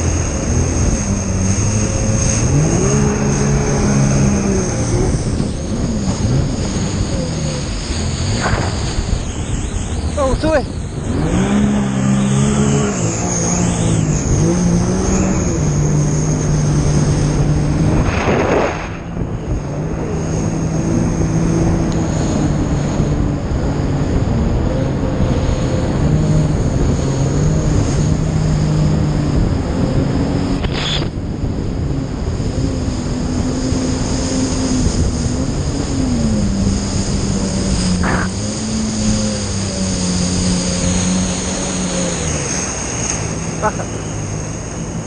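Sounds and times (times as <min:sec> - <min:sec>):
jet ski engine running: 0:00.0 - 0:45.0
wind and water rushing: 0:00.0 - 0:45.0.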